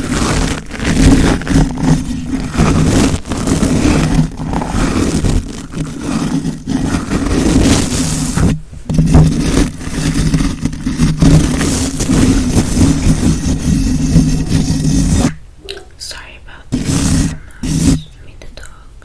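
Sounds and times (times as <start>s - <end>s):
scratching and rubbing on microphone: 0.0s - 15.4s, 16.7s - 18.1s.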